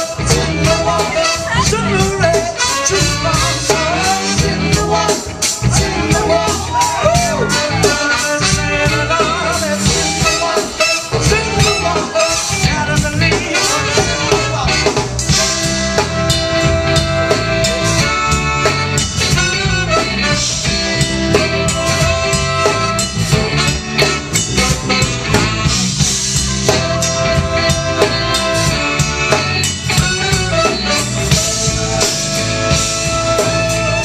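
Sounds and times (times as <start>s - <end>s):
drum kit beat: 0.0s - 34.0s.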